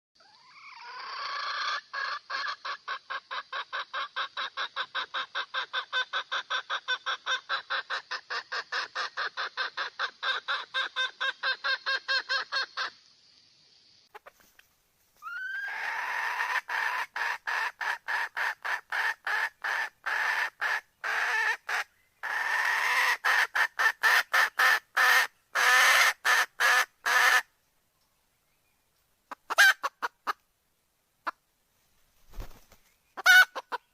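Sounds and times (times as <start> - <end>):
hen clucking: 0.2 - 13.1, 14.1 - 27.5, 29.3 - 30.4, 33.2 - 33.9.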